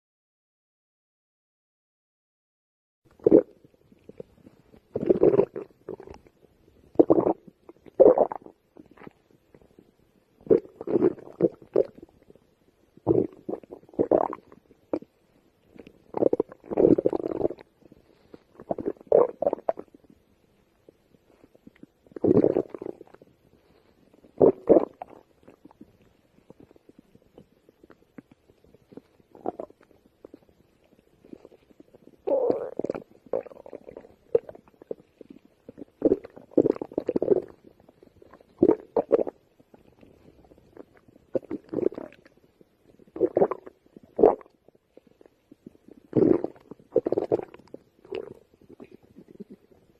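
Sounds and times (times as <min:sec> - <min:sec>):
stomach growling: 0:03.1 - 0:49.9.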